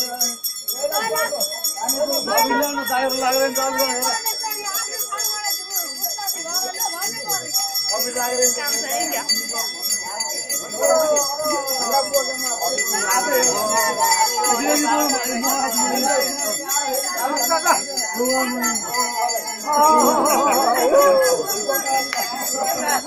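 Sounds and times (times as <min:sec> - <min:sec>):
bells ringing: 0:00.0 - 0:23.0
crowd voices: 0:00.0 - 0:23.0.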